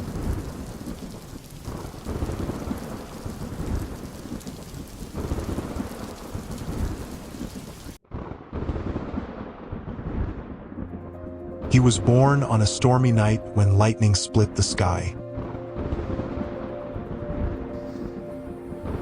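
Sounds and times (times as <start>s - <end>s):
rumbling thunder: 0.0s - 13.6s, 15.1s - 19.0s
heavy rain: 0.0s - 19.0s.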